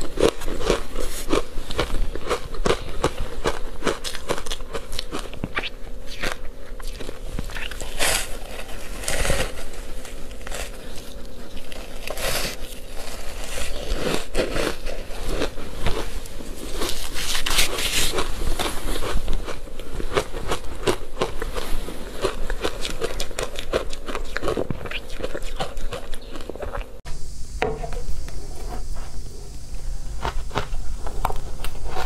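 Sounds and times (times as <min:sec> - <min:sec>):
chewing crunchy ice: 0:00.0 - 0:27.0.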